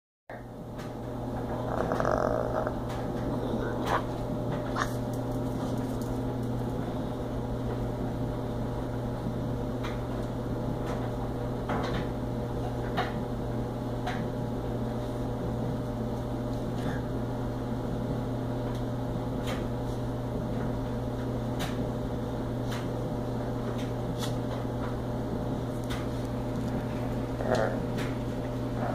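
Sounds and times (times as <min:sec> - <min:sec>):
low mechanical hum: 0:00.3 - 0:28.9.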